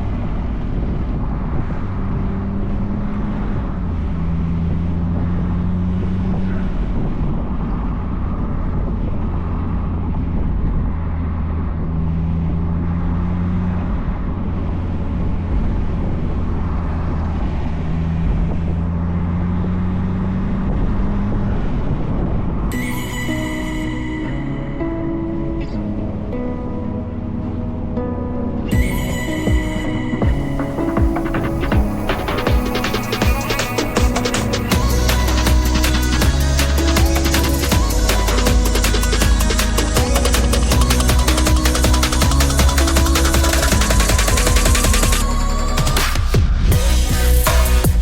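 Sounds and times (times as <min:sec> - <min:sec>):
car engine cruising: 0:00.0 - 0:48.0
road and wind noise: 0:00.0 - 0:48.0.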